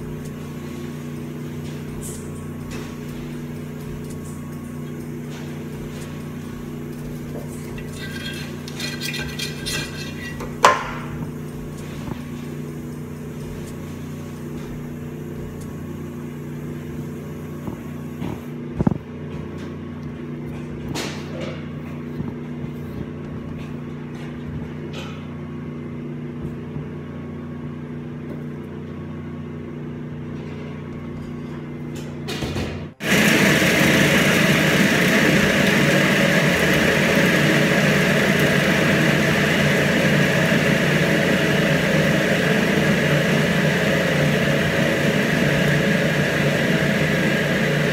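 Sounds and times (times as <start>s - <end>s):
kitchen machinery hum: 0.0s - 47.9s.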